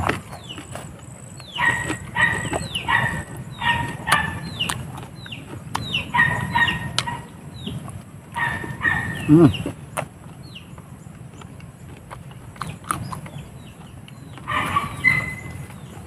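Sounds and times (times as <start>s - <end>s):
crisp chewing clicks: 0.0s - 8.5s, 9.5s - 16.0s
chickens clucking: 0.0s - 16.0s.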